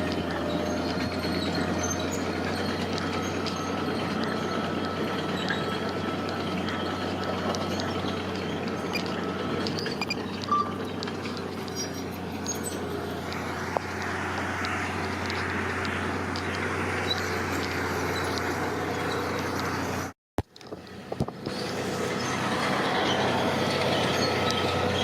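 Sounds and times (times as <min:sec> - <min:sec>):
heavy machinery engine humming: 0:00.0 - 0:25.0.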